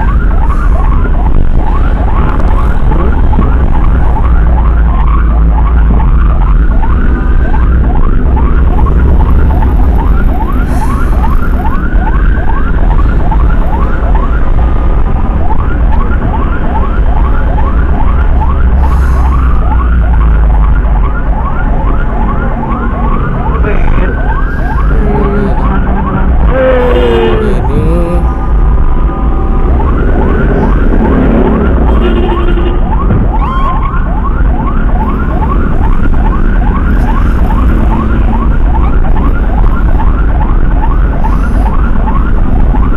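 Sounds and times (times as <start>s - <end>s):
ambulance siren: 0.0s - 42.9s
engine and road rumble: 0.0s - 42.9s.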